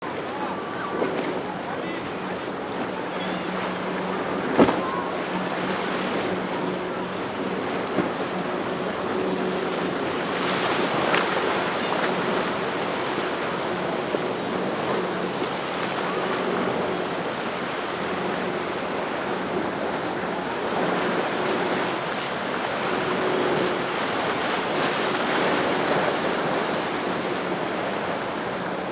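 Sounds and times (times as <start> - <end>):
faint boat engine drone: 0.0 - 28.9
waves and rushing water: 0.0 - 28.9.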